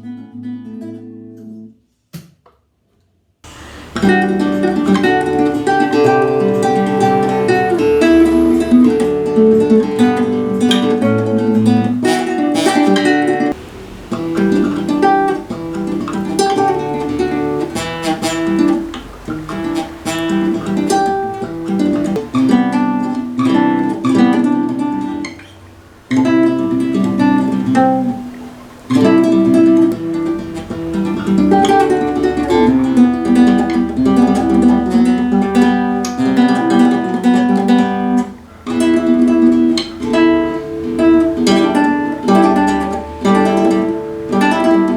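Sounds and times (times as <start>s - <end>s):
acoustic guitar riff: 3.5s - 44.9s.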